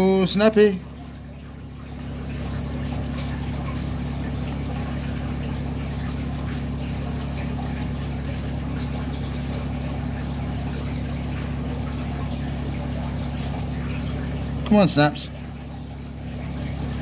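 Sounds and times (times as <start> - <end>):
aquarium filter pump humming: 0.0 - 17.0
water moving: 0.0 - 17.0.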